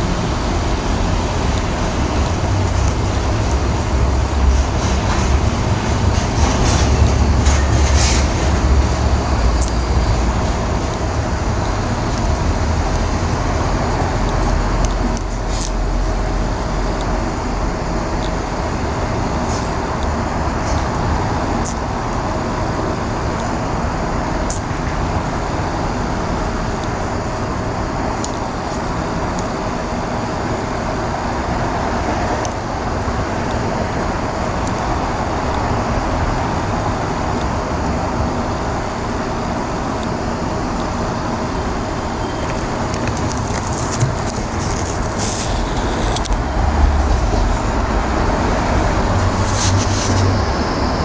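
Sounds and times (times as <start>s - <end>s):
distant traffic rumble: 0.0s - 51.0s.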